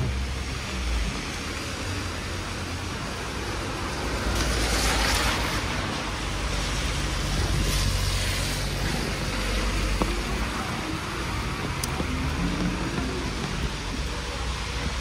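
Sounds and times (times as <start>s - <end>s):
low traffic rumble: 0.0s - 15.0s
tyres hissing on wet road: 0.0s - 15.0s.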